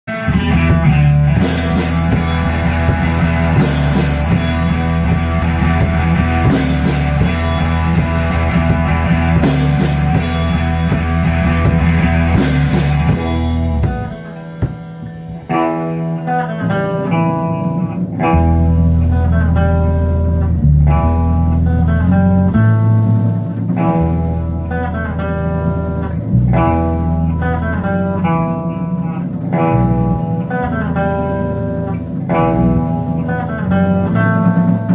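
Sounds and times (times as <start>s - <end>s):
bass guitar: 0.0s - 34.9s
electric guitar: 0.0s - 34.9s
drum kit: 0.1s - 34.9s.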